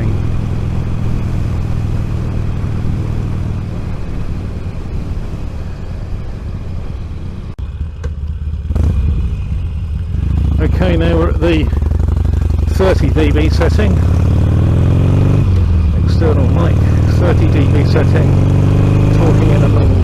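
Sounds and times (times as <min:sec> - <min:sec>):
motorcycle engine: 0:00.0 - 0:20.0
road rumble: 0:00.0 - 0:20.0.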